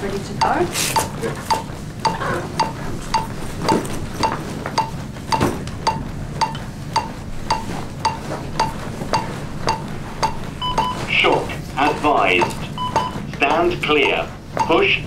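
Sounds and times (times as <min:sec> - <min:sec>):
metronome beeping: 0:00.0 - 0:15.0.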